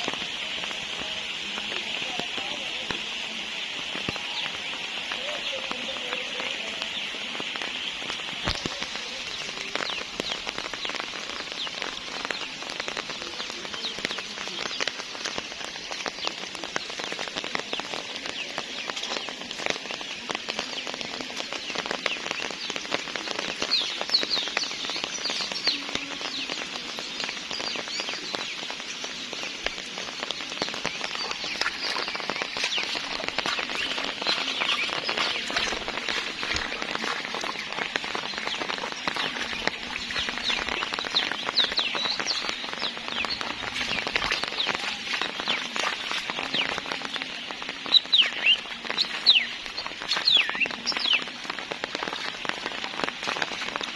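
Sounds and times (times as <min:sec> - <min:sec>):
birds chirping: 0:00.0 - 0:53.9
rain falling: 0:00.0 - 0:53.9.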